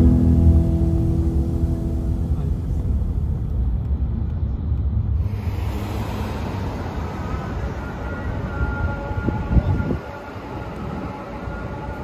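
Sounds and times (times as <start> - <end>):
car road noise rumble: 0.0 - 11.6
city street traffic noise: 0.0 - 12.0.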